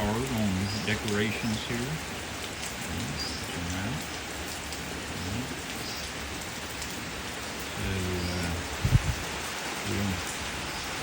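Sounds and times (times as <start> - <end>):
heavy rain on water: 0.0 - 11.0.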